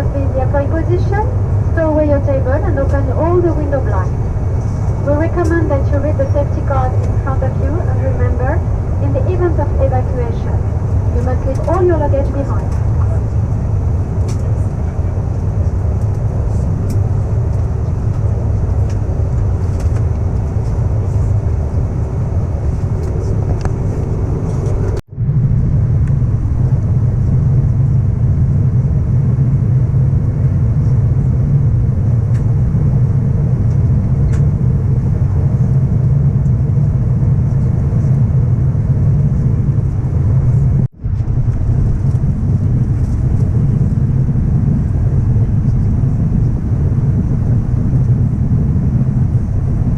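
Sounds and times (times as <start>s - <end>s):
aircraft cabin engine rumble: 0.0s - 49.9s.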